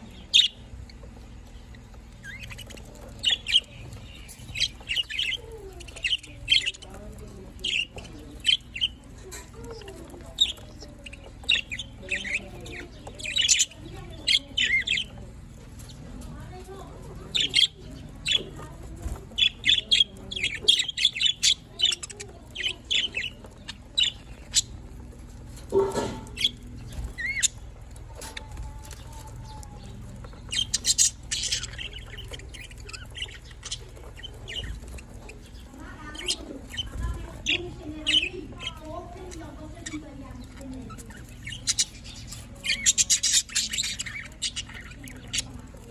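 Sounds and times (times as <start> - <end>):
budgerigars chirping: 0.0 - 45.9
low warbling chatter: 0.0 - 45.9.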